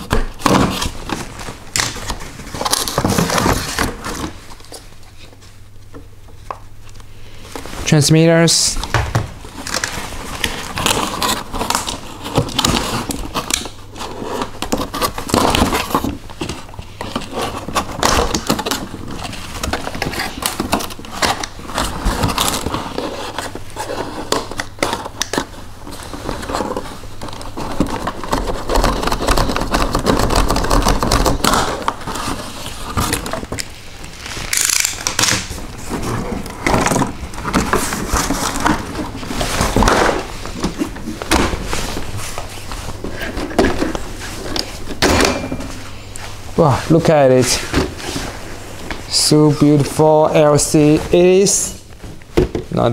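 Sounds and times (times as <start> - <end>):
cardboard scraping and rustling: 0.0 - 5.8, 7.4 - 52.9.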